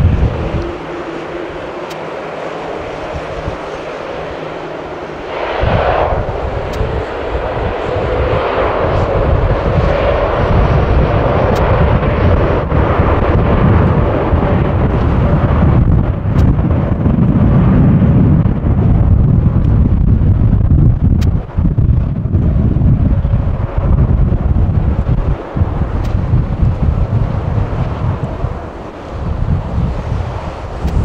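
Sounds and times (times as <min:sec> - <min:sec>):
jet engines rushing: 0:00.0 - 0:31.0
wind rumbling on microphone: 0:00.0 - 0:31.0.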